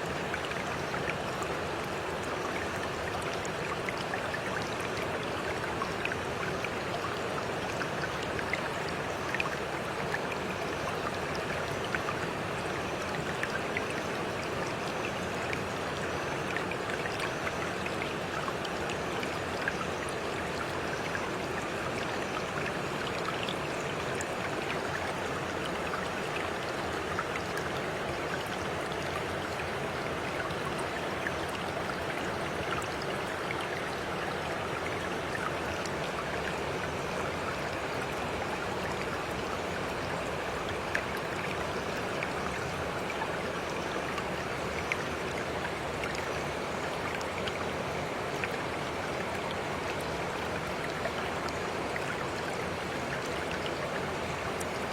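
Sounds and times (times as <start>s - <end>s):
running water flowing: 0.0s - 54.9s.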